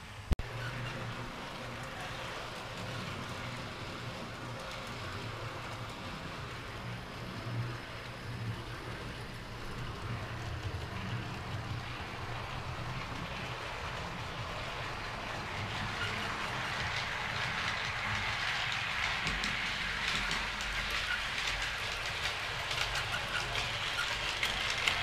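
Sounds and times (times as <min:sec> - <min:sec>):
wheels rattling on track: 0:00.4 - 0:25.0.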